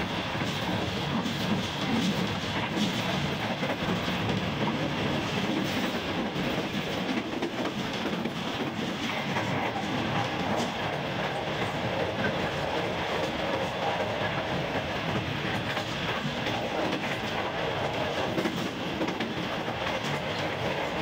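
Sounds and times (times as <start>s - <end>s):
train rumbling and rattling: 0.0s - 21.0s.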